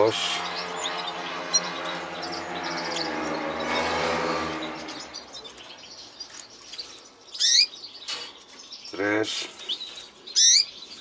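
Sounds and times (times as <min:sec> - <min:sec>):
cage birds chirping: 0:00.0 - 0:11.0.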